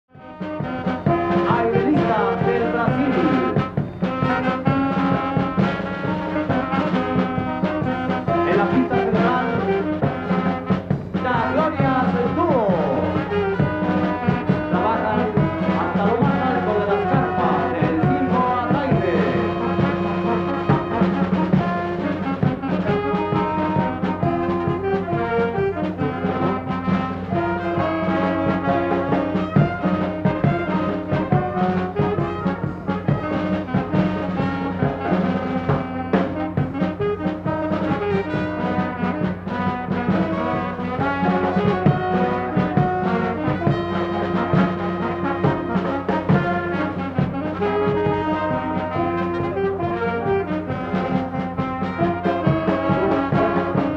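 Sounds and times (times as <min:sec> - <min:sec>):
circus brass band music: 0:00.1 - 0:53.9.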